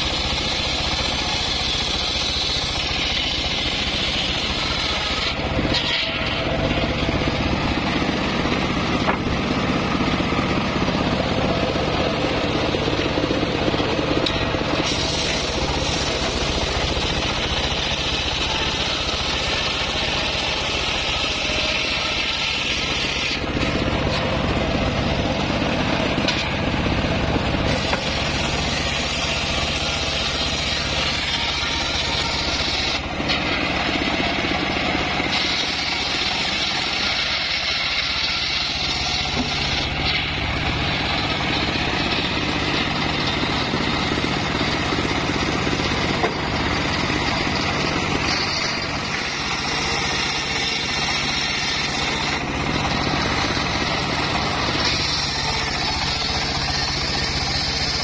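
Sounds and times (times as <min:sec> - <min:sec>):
circular saw cutting boards: 0:00.0 - 0:58.0
stationary engine hum: 0:00.0 - 0:58.0.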